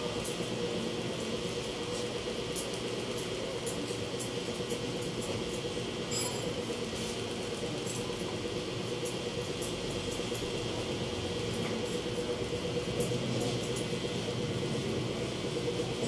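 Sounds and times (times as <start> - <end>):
steady electric hum: 0.0 - 16.0.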